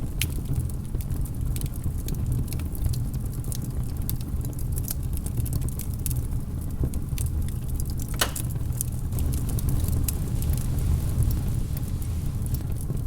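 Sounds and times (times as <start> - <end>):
fireplace flames rumbling: 0.0 - 13.0
wood crackling and popping: 0.0 - 13.0.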